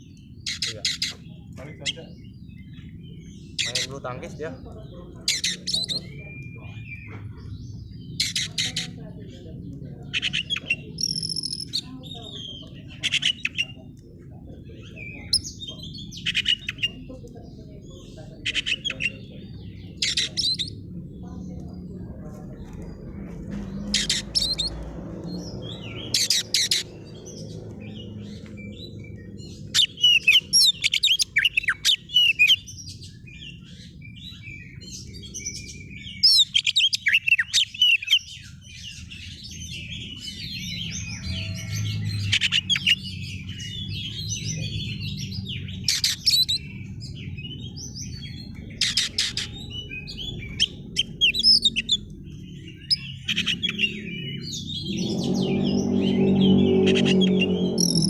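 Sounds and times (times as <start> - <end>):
steady low rumble: 1.2 - 36.6, 38.4 - 58.0.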